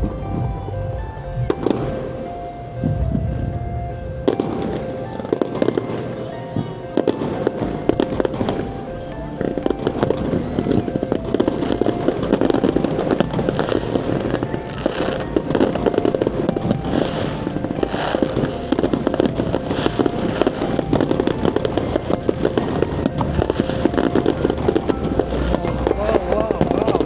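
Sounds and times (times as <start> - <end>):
fireworks crackling and popping: 0.0 - 27.0
music playing: 0.0 - 27.0.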